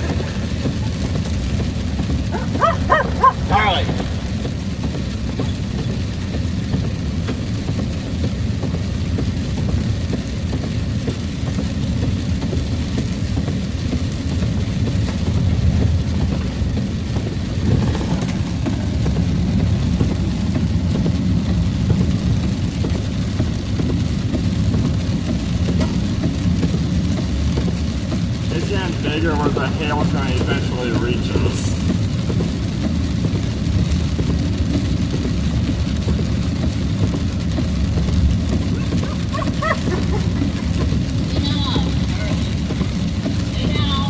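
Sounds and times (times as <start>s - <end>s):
low rumble inside truck cab: 0.0s - 44.0s
rain hiss: 0.0s - 44.0s.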